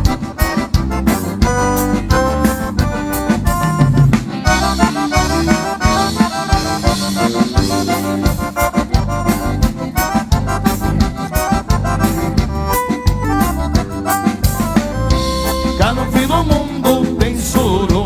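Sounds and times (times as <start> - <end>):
accordion melody: 0.0 - 18.0
bass: 0.0 - 18.0
steady drum beat: 0.0 - 18.0.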